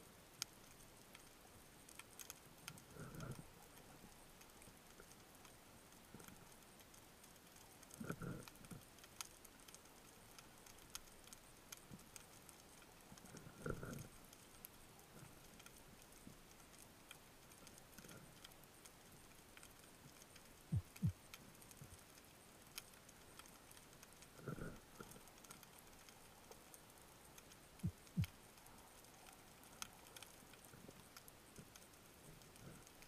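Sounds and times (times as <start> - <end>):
faint underwater ticks and crackles: 0.0 - 33.0.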